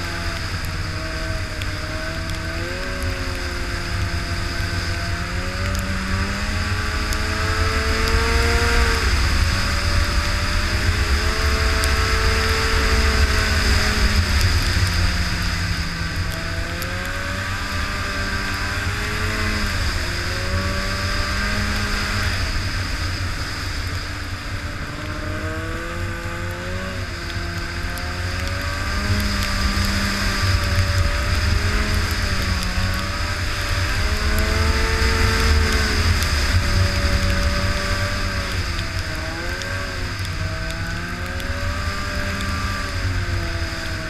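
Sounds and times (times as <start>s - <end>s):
snowmobile engine running: 0.0s - 44.0s.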